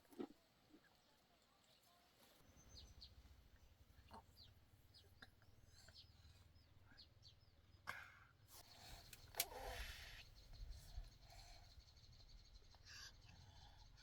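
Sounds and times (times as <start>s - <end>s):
small birds chirping: 0.7s - 14.0s.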